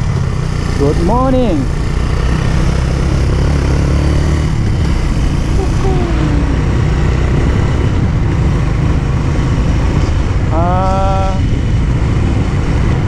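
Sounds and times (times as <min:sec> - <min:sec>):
motorcycle engine running: 0:00.0 - 0:13.0
wind on microphone: 0:01.4 - 0:13.0.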